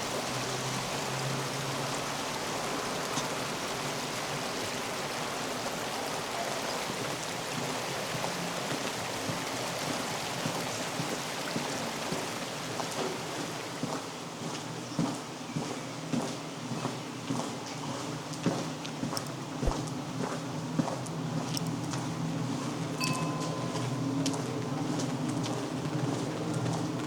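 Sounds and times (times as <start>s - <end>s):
steady rain falling: 0.0s - 15.2s, 16.3s - 27.0s.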